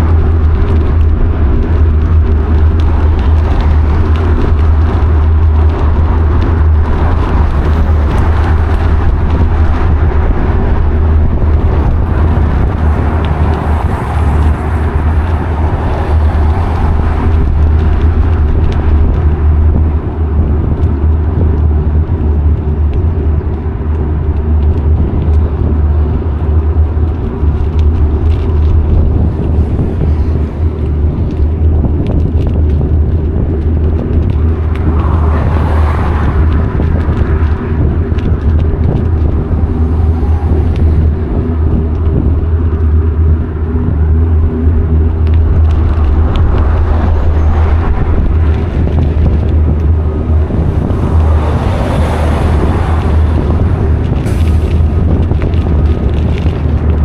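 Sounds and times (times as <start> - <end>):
car traffic: 0.0 - 57.0
loud wind on microphone: 0.0 - 57.0.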